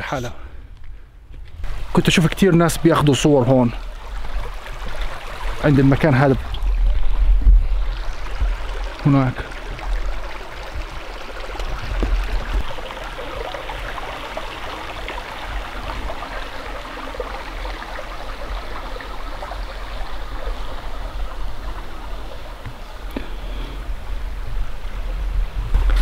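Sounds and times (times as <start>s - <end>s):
creek water over rocks: 1.6s - 26.0s.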